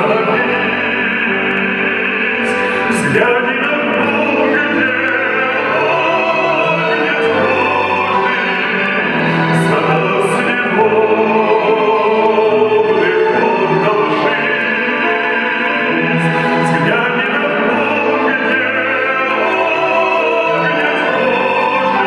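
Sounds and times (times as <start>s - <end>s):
operatic singing: 0.0s - 22.0s
orchestral accompaniment: 0.0s - 22.0s.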